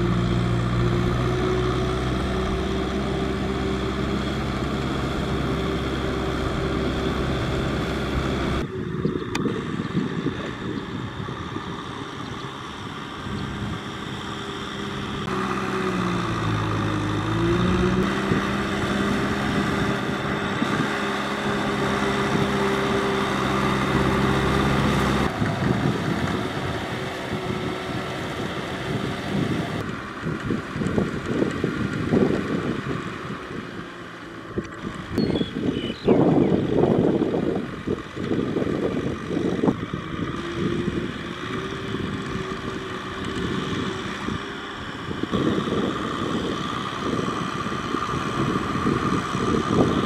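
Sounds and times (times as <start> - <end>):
tractor diesel engine under load: 0.0 - 50.0
wind buffeting microphone: 0.1 - 15.3, 16.4 - 50.0.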